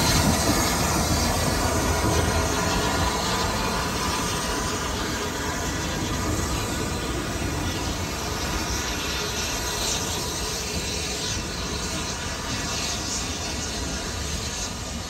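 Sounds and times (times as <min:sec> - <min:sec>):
steam hissing: 0:00.0 - 0:15.0
train wheels rumbling on rail: 0:00.0 - 0:15.0.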